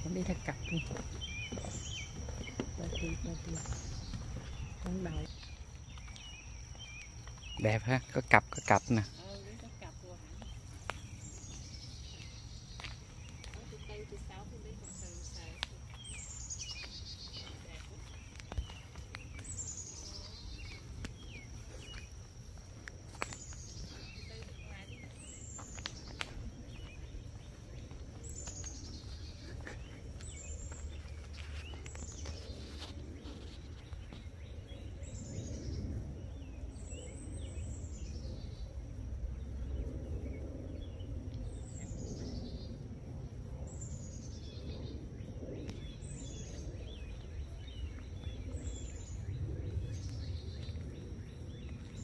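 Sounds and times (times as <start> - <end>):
low outdoor rumble: 0.0 - 52.0.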